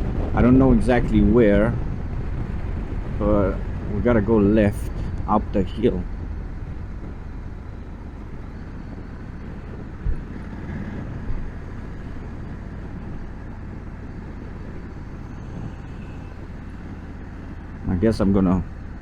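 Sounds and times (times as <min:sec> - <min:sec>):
motorcycle engine rumble: 0:00.0 - 0:19.0
wind noise: 0:00.0 - 0:19.0.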